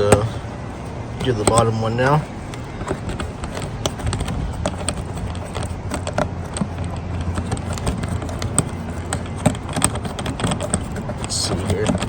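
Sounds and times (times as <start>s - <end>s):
steady low hum: 0.0s - 12.0s
plastic clicks and knocks: 1.2s - 12.0s.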